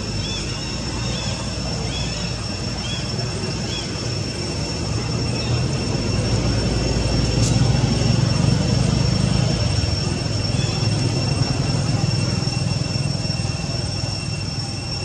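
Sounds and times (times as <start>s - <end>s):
distant engine rumble: 0.0s - 15.0s
high insect drone: 0.0s - 15.0s.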